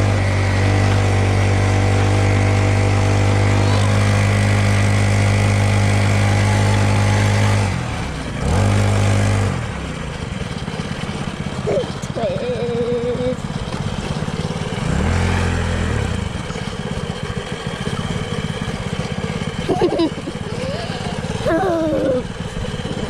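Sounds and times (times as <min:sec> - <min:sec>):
dirt bike engine revving: 0:00.0 - 0:10.0, 0:11.4 - 0:23.0.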